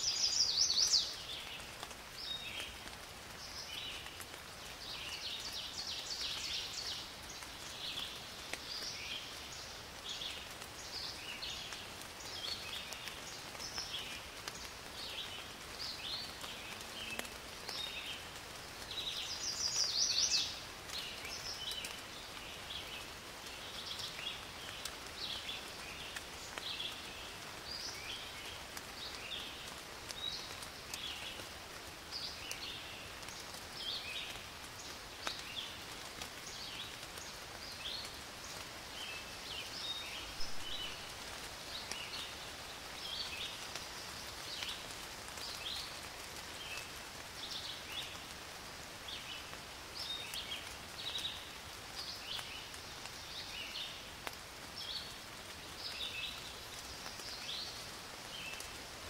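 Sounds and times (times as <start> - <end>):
small birds chirping: 0.0 - 59.0
steady background hiss: 0.0 - 59.0.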